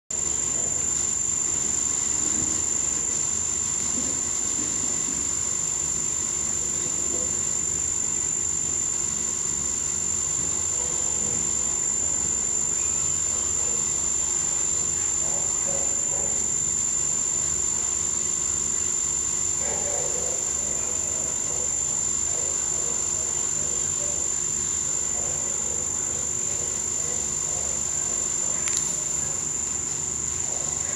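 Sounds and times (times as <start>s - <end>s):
treadmill high-pitched whine: 0.0s - 30.9s
low mechanical hum: 0.1s - 30.9s.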